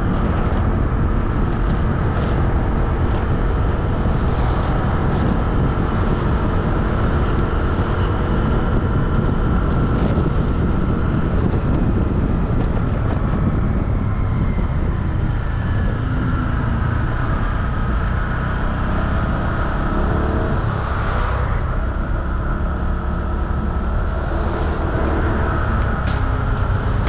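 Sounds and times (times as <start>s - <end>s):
wind and road noise rumble: 0.0s - 27.0s.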